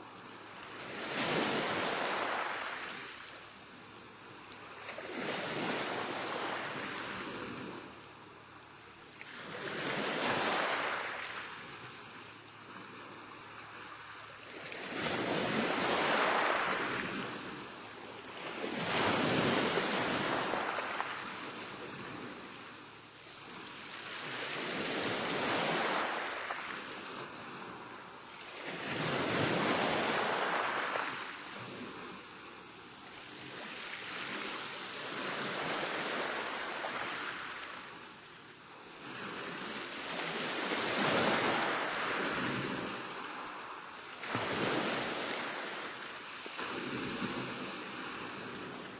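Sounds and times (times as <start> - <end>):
rough sea waves breaking: 0.0 - 8.3, 9.0 - 48.9.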